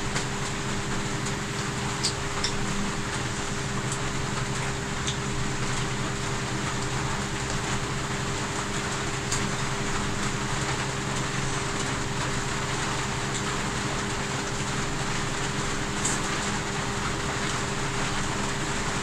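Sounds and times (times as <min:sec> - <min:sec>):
steady hum and hiss: 0:00.0 - 0:19.0.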